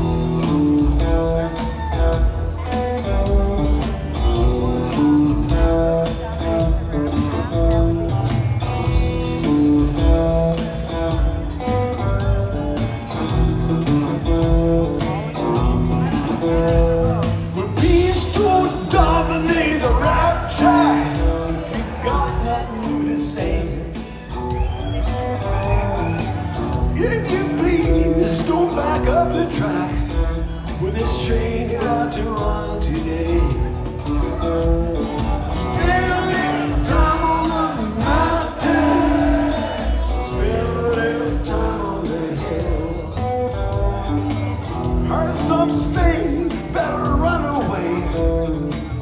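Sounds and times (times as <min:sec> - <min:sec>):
bass guitar: 0:00.0 - 0:49.0
drums steady beat: 0:00.0 - 0:49.0
electric guitar: 0:00.0 - 0:49.0.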